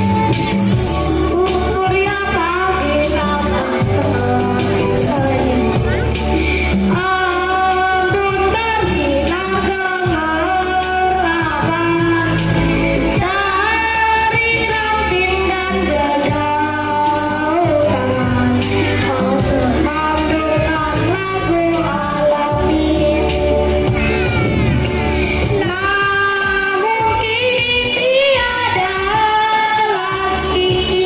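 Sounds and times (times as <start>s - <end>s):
backing music with bass line: 0.0s - 31.0s.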